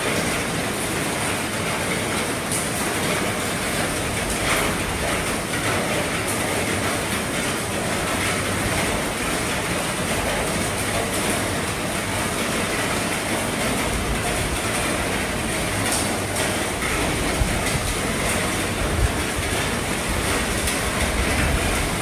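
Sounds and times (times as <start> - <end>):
heavy rain on a roof: 0.0 - 22.0.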